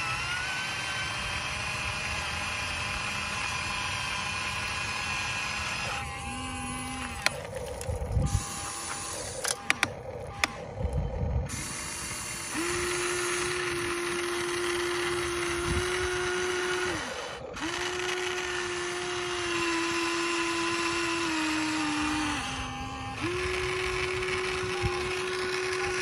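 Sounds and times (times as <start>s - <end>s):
electric motors whining: 0.0s - 26.0s.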